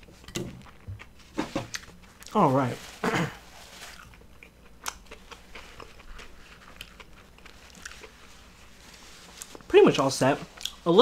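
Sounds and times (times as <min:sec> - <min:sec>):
person chewing food: 0:00.0 - 0:02.4, 0:03.3 - 0:09.7, 0:10.4 - 0:10.9.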